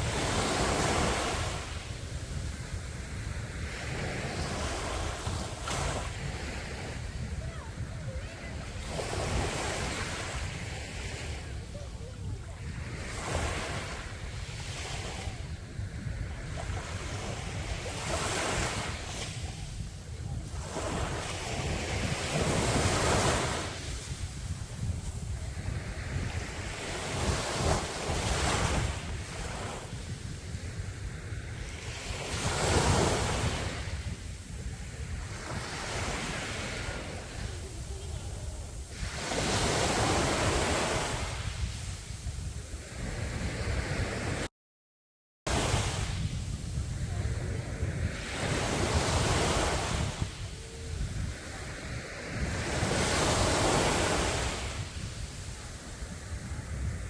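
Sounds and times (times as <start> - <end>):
ocean waves breaking: 0.0 - 44.5, 45.5 - 57.0
wind rumble on microphone: 0.0 - 44.5, 45.5 - 57.0.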